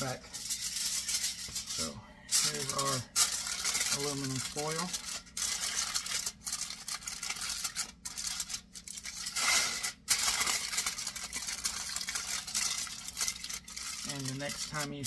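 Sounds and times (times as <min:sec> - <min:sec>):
aluminum foil crinkling: 0:00.0 - 0:15.0.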